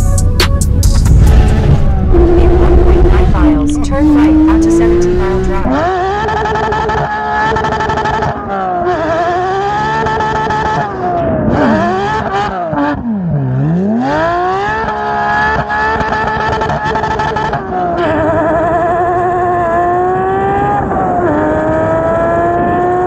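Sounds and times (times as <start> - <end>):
sports car engine revving: 0.3 - 23.0.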